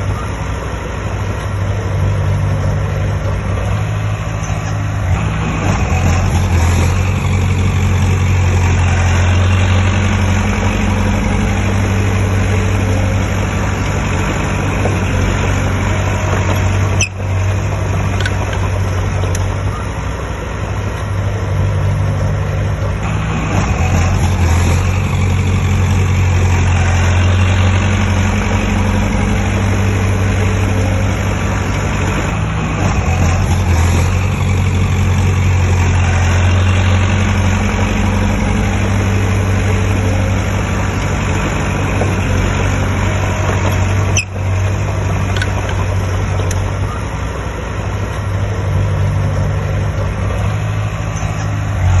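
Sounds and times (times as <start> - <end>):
diesel engine humming: 0.0 - 52.0.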